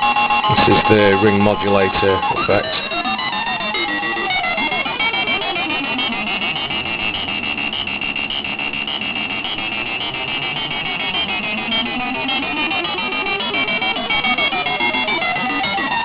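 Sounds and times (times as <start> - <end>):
harsh buzzing synth tone: 0.0 - 16.0.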